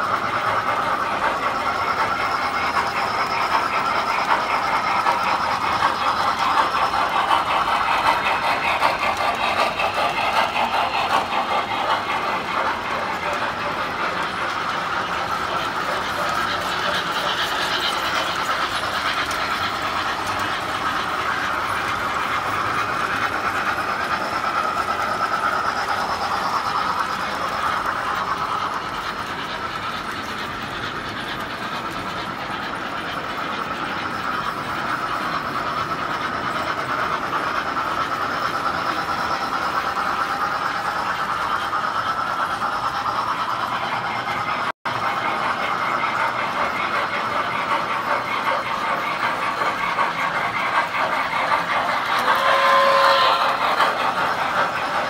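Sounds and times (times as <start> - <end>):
toy train motors whirring: 0.0 - 55.0.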